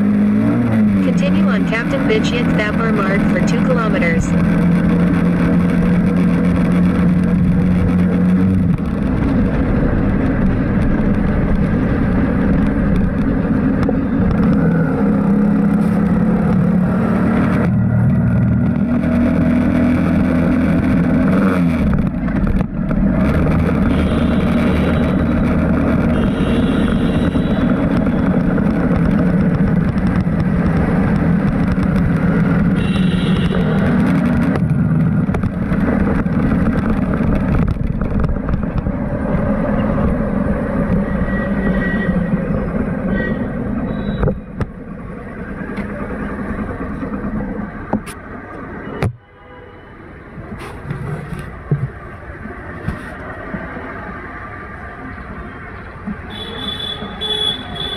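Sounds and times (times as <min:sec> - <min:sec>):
vehicle engine running while driving: 0:00.0 - 0:49.2, 0:50.1 - 0:57.9
road and wind noise: 0:00.0 - 0:57.9.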